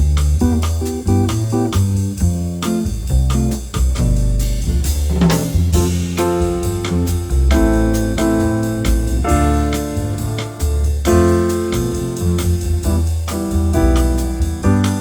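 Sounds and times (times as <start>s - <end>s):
steady bass line: 0.0s - 15.0s.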